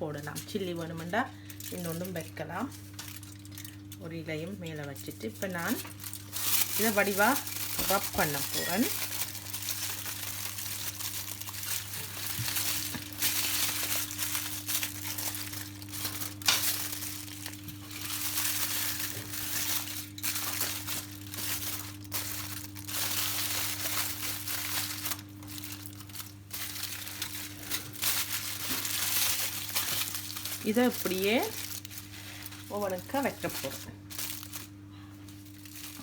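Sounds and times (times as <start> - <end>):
wrapping sheet crinkling: 0.0 - 36.0.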